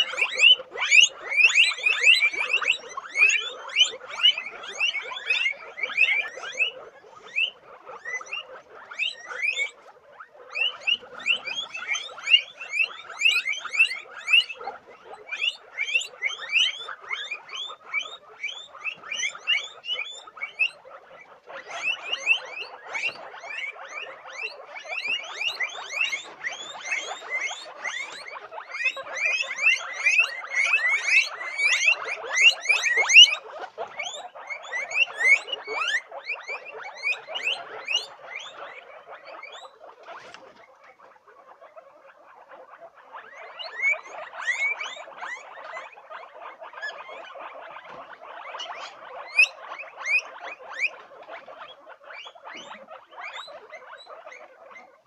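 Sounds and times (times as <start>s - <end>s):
guinea pigs squeaking and chattering: 0.0s - 55.0s.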